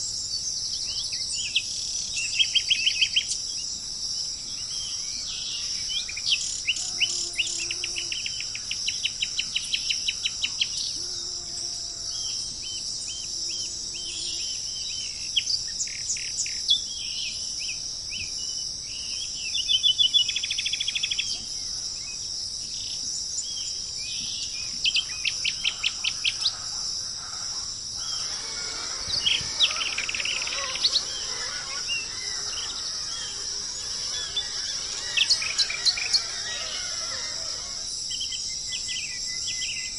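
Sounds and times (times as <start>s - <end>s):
high-pitched background hiss: 0.0s - 39.9s
songbirds chirping and trilling: 0.0s - 39.9s.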